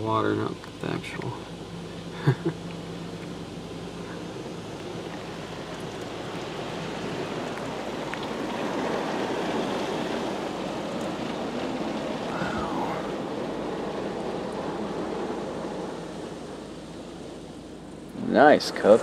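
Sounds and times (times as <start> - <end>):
water spray hissing on car: 1.9 - 19.0.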